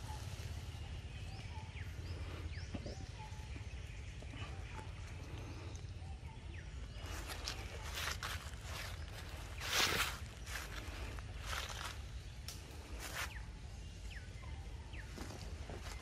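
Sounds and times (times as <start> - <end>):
rustling in dry leaves: 0.0 - 2.6, 3.6 - 16.0.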